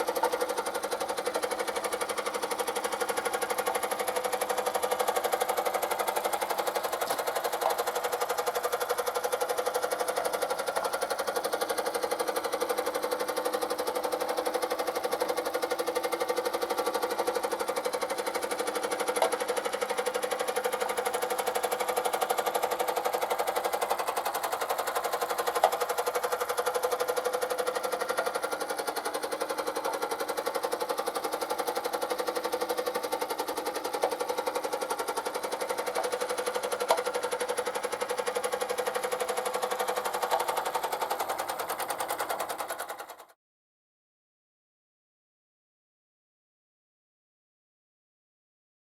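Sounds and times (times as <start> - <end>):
toy steam engine chugging: 0.0 - 43.4.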